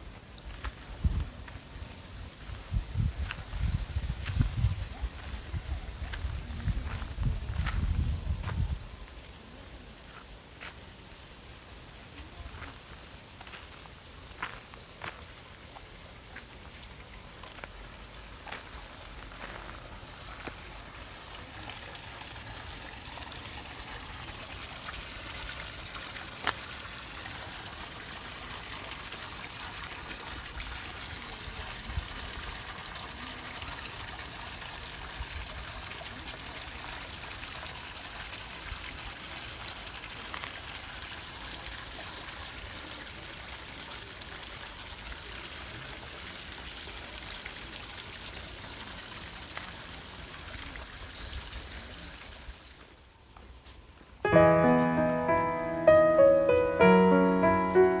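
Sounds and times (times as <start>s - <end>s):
water trickling and splashing: 0.0s - 53.0s.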